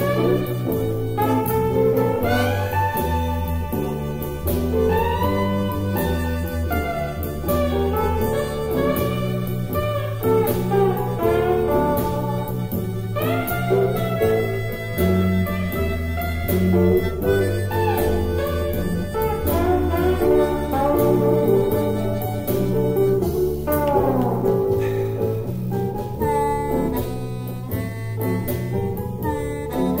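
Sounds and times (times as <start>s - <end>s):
bass and guitar backing track: 0.0s - 30.0s
harmonica playing blues melody: 0.0s - 30.0s.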